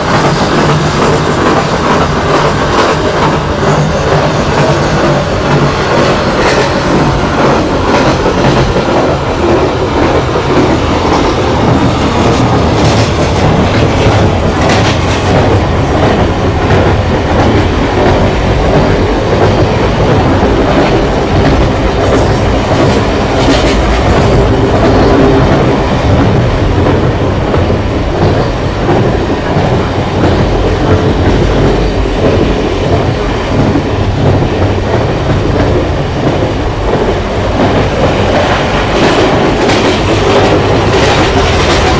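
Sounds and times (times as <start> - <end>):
train rumbling past: 0.0 - 41.9.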